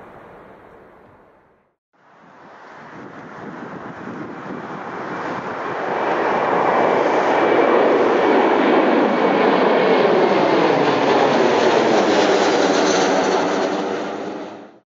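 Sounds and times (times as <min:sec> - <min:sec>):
jet engines roaring: 0:02.1 - 0:14.8.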